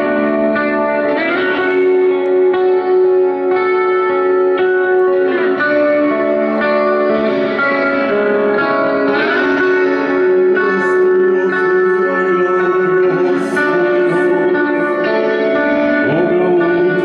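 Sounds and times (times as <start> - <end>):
sustained electric guitar chords: 0.0 - 17.0.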